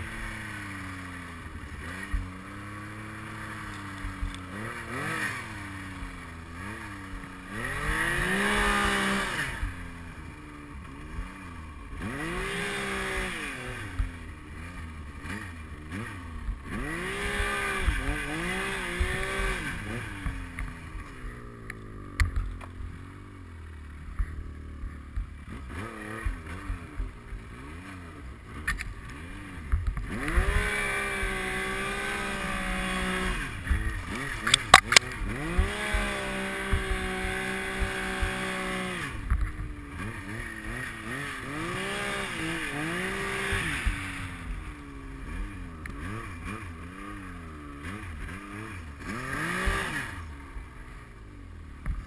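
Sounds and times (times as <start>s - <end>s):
snowmobile engine revving: 0.0s - 52.0s.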